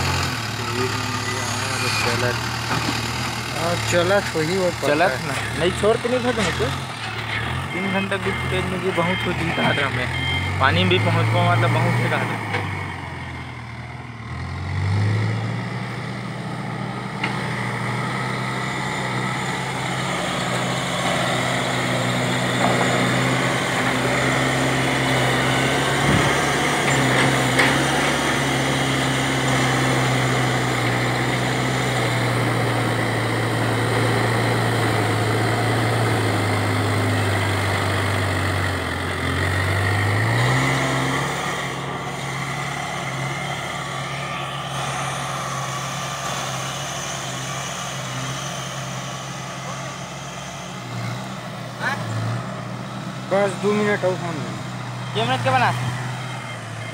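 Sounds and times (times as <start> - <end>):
backhoe diesel engine revving: 0.0 - 56.9.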